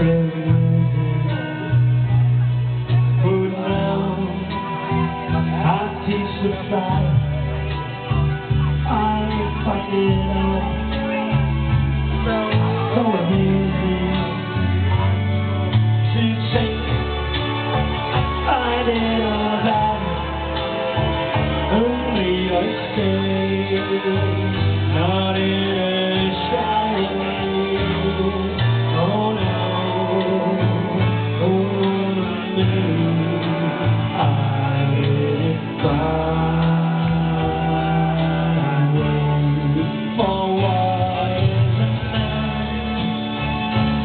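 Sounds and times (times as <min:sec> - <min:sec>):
song with singing and guitar: 0:00.0 - 0:44.0.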